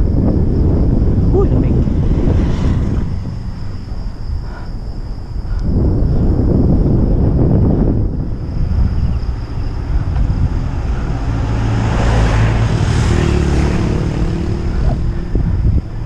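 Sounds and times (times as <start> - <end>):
vehicle passing: 0.0 - 5.4, 8.5 - 16.0
wind buffeting microphone: 0.0 - 16.0.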